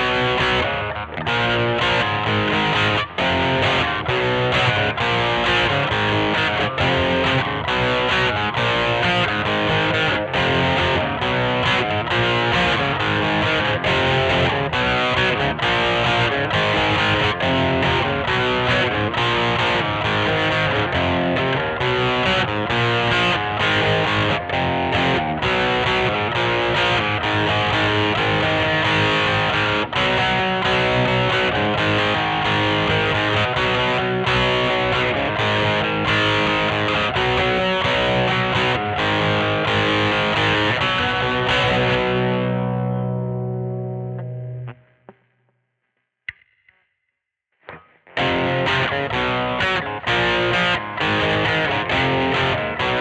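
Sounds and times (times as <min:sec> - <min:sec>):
distorted electric guitar: 0:00.0 - 0:45.5, 0:47.6 - 0:53.0.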